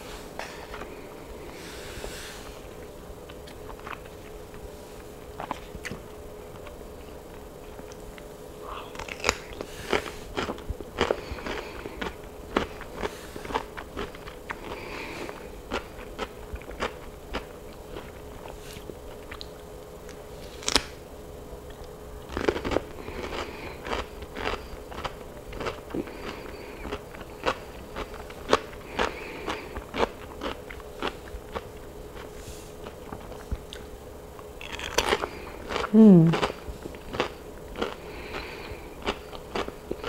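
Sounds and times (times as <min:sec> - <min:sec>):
cucumber crunching being chewed: 0:03.2 - 0:04.6, 0:05.4 - 0:06.8, 0:08.8 - 0:21.0, 0:21.6 - 0:40.0.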